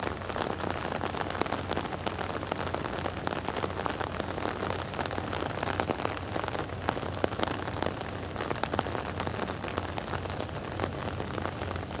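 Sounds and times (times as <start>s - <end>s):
raindrops ticking: 0.0s - 12.0s
steady rain: 0.0s - 12.0s.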